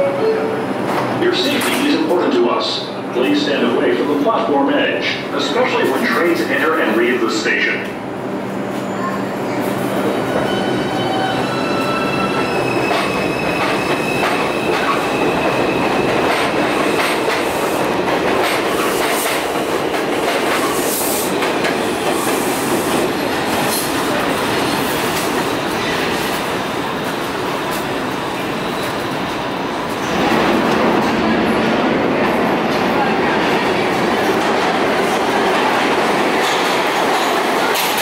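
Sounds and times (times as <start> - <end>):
train cars rumbling and clattering: 0.0 - 38.0.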